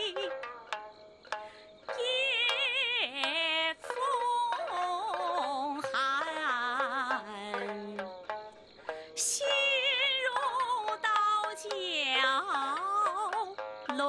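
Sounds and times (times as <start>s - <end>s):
woman singing with vibrato: 0.0s - 0.3s, 1.9s - 8.2s, 9.2s - 14.0s
instrumental accompaniment: 0.0s - 14.0s.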